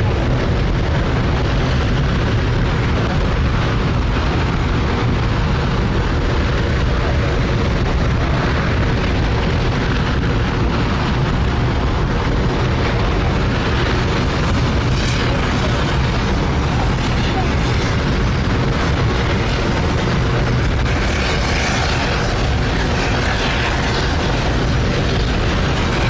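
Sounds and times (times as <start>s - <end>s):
rocket engine firing: 0.0s - 26.0s.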